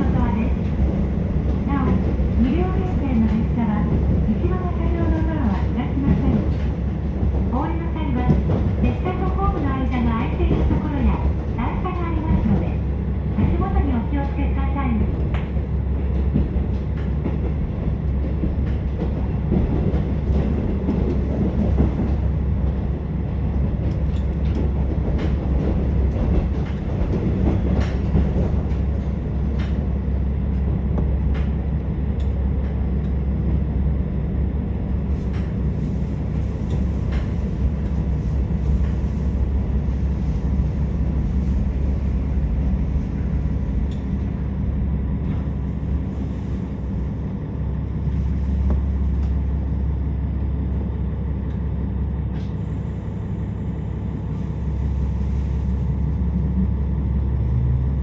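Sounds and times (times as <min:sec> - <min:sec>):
diesel railcar rumbling: 0:00.0 - 0:58.0.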